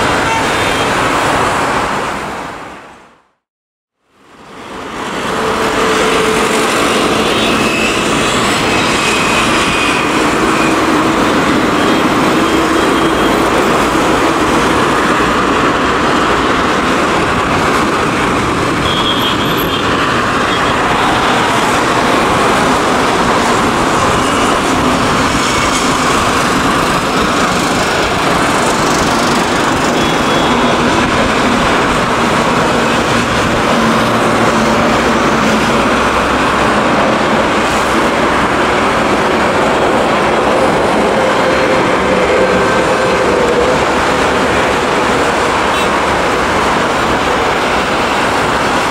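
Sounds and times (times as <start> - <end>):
jet engine roar: 4.6 - 48.9.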